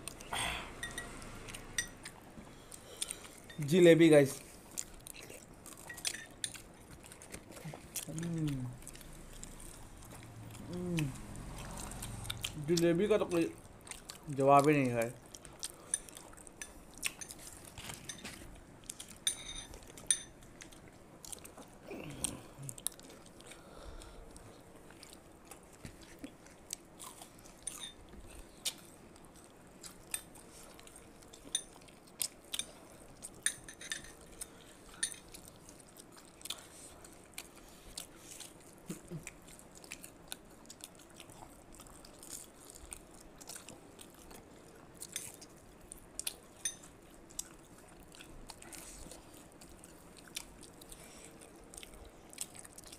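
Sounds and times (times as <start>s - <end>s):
people chewing crunchy snacks: 1.5s - 52.9s.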